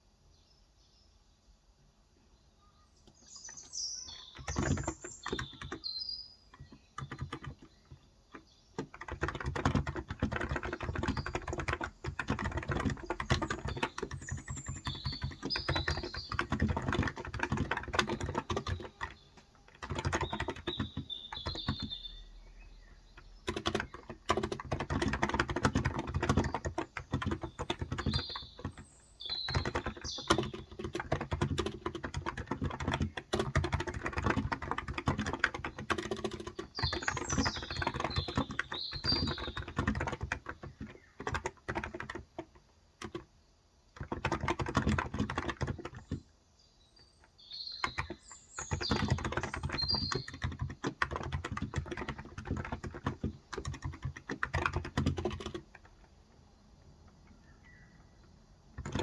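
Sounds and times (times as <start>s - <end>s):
birds chirping: 0.3s - 59.0s
typing on keyboard: 3.1s - 43.3s, 43.9s - 46.3s, 47.0s - 59.0s.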